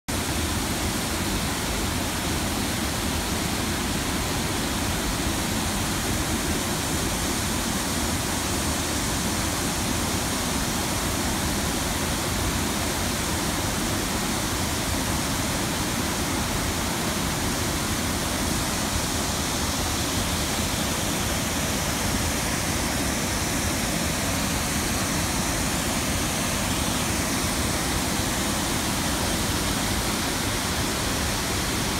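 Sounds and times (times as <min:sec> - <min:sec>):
water rushing over a dam: 0:00.1 - 0:31.9.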